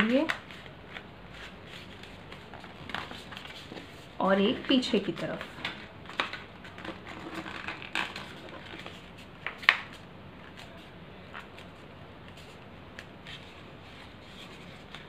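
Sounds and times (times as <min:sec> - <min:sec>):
paper rustling and crinkling: 0:00.2 - 0:15.0.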